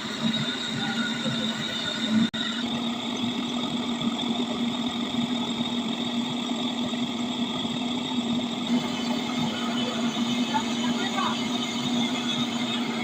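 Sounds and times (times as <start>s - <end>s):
motor humming and whining: 0.0s - 13.0s.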